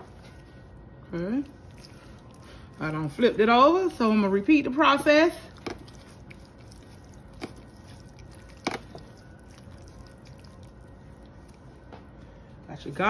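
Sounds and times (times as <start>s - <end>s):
hands squelching wet meat: 0.0s - 12.7s.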